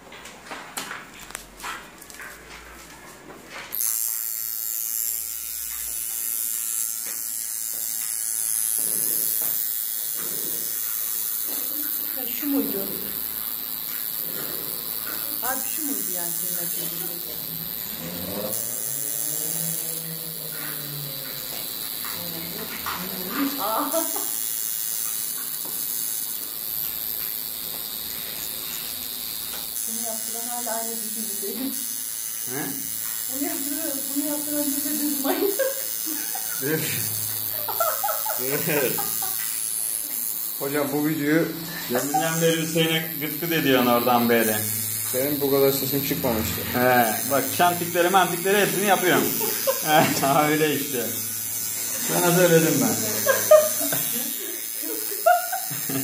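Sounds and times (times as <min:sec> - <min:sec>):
tattoo machine buzzing: 0:00.5 - 0:56.0.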